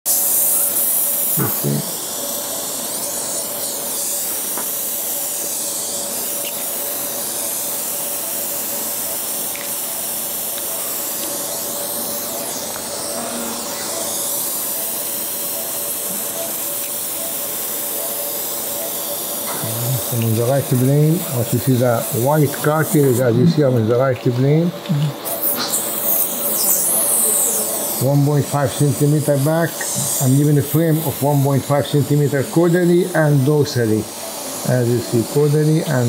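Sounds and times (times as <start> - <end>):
suction cannula hissing: 0.0 - 36.0.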